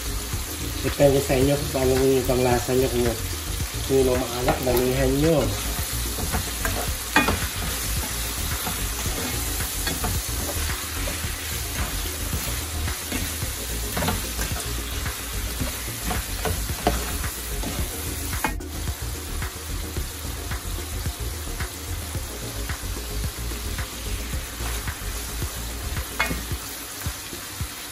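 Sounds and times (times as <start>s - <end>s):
food sizzling in a pot: 0.0s - 27.9s.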